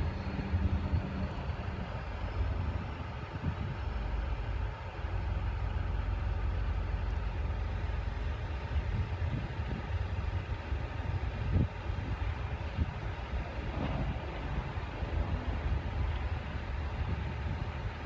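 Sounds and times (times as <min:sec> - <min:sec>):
wind buffeting microphone: 0:00.0 - 0:06.8, 0:07.4 - 0:18.0
distant machinery rumble: 0:00.0 - 0:18.0.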